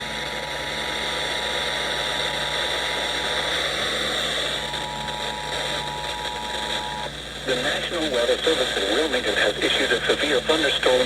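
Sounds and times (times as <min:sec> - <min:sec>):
radio static hiss: 0:02.0 - 0:11.0.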